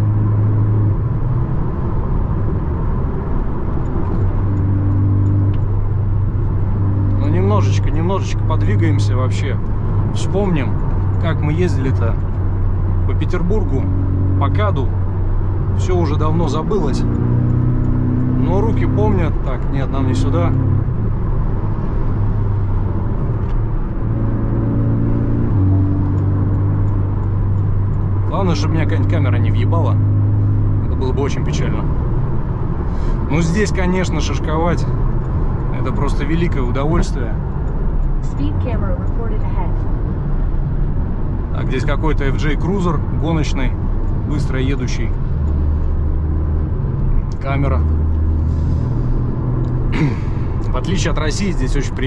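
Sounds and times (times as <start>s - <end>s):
car engine and tyre noise: 0.0s - 52.0s
road noise: 0.0s - 52.0s.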